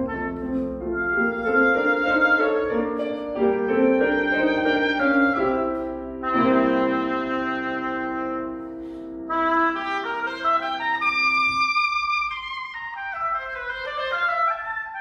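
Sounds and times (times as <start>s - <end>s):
oboe melody: 0.0s - 15.0s
piano accompaniment: 0.0s - 15.0s.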